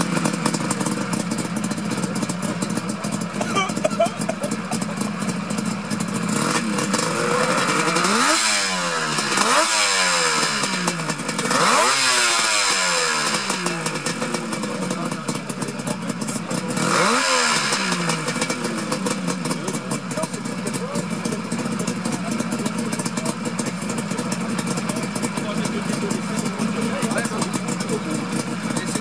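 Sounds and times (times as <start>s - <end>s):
motorcycle engine idling and revving: 0.0s - 29.0s.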